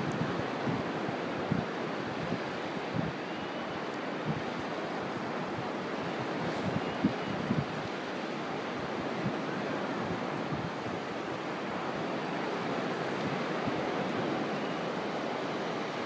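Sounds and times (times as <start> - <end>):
wind buffeting microphone: 0.0 - 3.3, 4.1 - 16.0
surf rushing on beach: 0.0 - 16.0.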